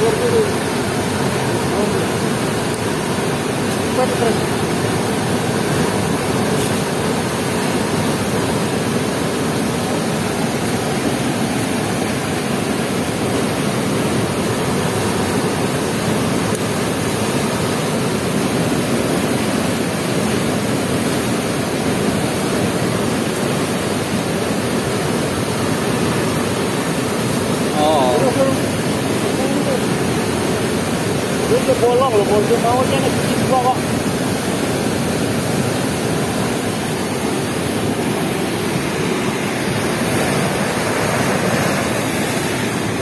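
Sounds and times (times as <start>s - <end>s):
water rushing through weir: 0.0s - 43.0s.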